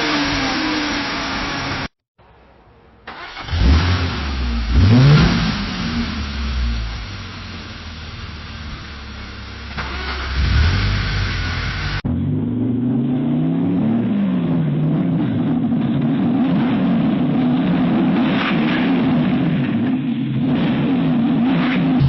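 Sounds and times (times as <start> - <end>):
car engine revving: 0.0 - 1.9, 3.1 - 22.0.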